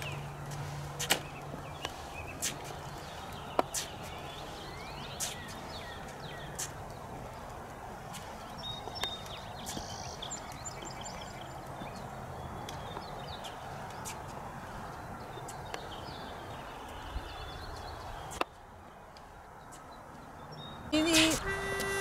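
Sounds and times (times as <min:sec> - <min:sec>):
walker wheels tapping: 0:00.0 - 0:17.0, 0:21.0 - 0:22.0
footsteps on concrete: 0:00.0 - 0:20.3, 0:21.0 - 0:22.0
birds chirping: 0:00.0 - 0:22.0.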